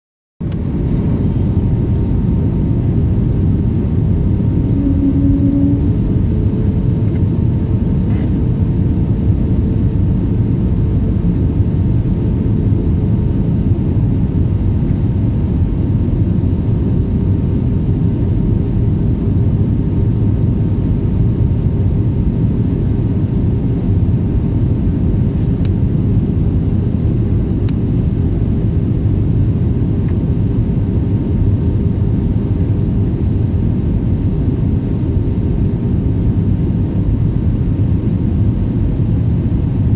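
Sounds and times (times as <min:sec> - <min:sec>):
airliner engines and airflow rumble: 0:00.4 - 0:39.9.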